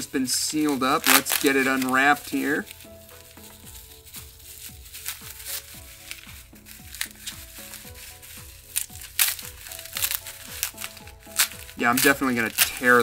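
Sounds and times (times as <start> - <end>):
background music with steady beat: 0.0 - 13.0
bubble wrap crinkling: 0.0 - 13.0.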